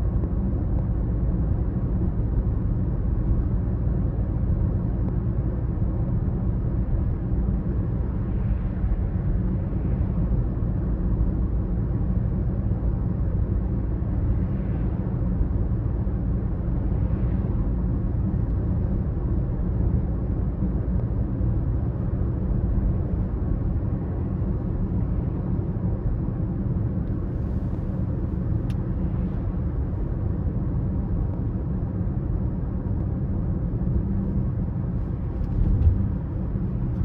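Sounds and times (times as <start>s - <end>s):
diesel car engine rumbling: 0.0s - 37.0s.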